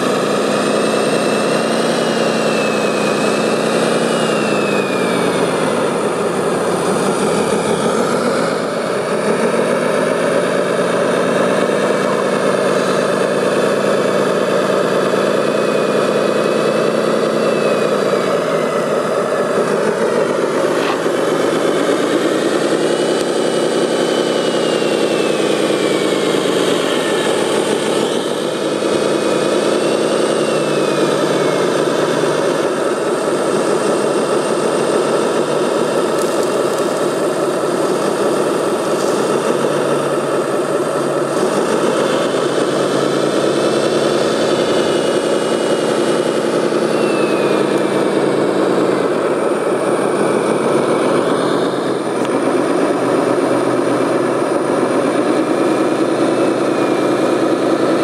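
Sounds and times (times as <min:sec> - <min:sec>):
model loader engine drone: 0:00.0 - 0:58.0
motor whine rising and falling: 0:00.0 - 0:58.0.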